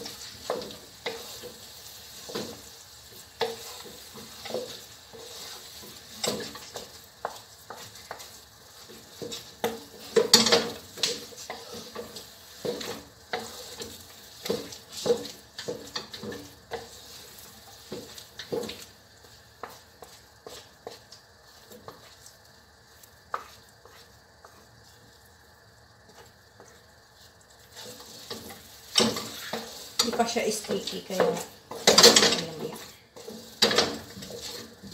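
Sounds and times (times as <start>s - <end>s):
wooden spatulas scraping in a wok: 0.0s - 25.1s, 26.1s - 34.9s.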